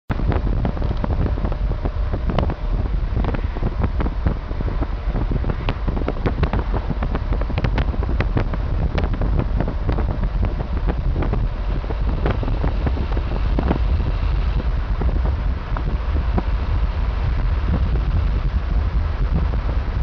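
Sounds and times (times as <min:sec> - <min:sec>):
car rumble on road: 0:00.1 - 0:20.0
wind buffeting microphone: 0:00.1 - 0:20.0.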